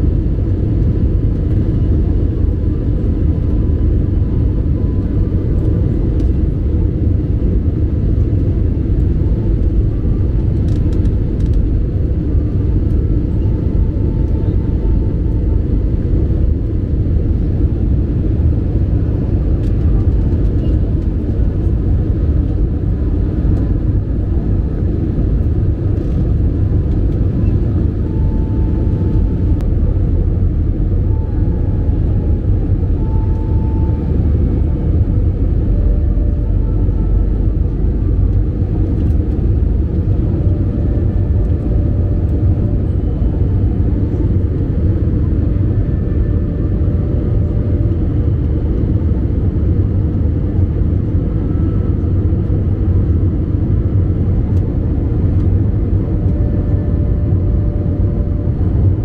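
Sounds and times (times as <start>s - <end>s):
faint steady hums: 0.0s - 59.0s
jet engine cabin rumble: 0.0s - 59.0s.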